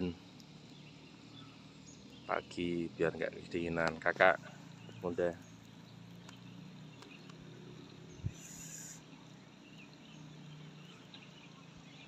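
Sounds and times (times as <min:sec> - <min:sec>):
campfire crackling: 0:00.0 - 0:10.2
faint chirps: 0:00.0 - 0:12.0
outdoor ambience: 0:00.0 - 0:12.0.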